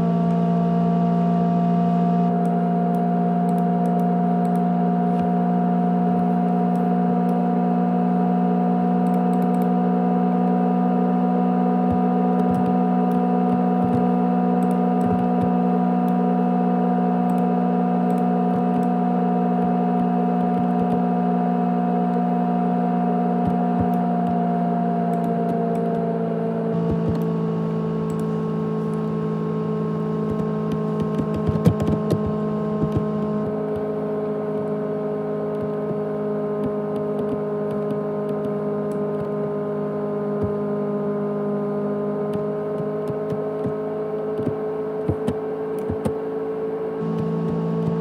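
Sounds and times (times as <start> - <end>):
hard disk drive humming: 2.2 - 48.0.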